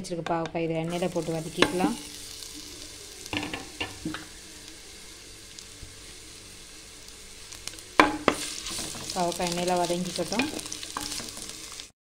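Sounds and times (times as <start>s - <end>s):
vegetables sizzling in oil: 0.8s - 12.0s.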